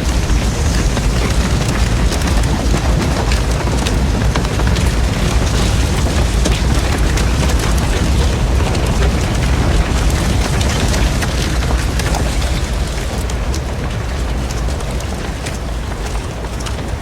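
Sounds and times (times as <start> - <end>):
fire crackling and snapping: 0.0 - 17.0
fire rumbling: 0.0 - 17.0.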